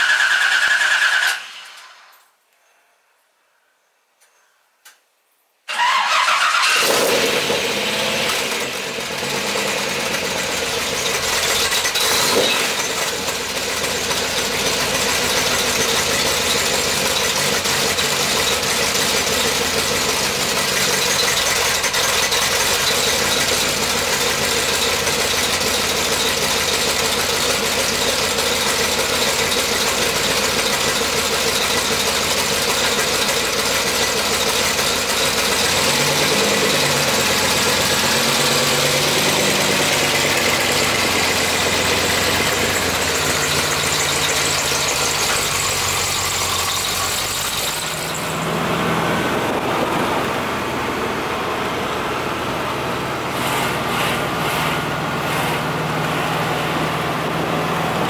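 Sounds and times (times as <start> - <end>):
car engine starting and idling: 5.7 - 58.0.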